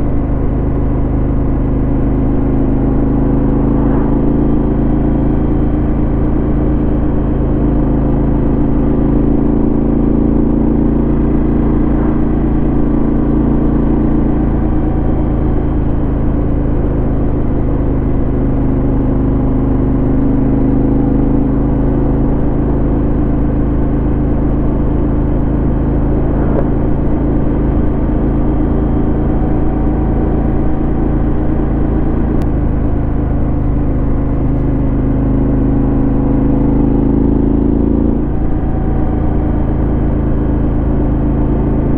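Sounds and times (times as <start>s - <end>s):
motorcycle engine running steadily: 0.0s - 41.9s.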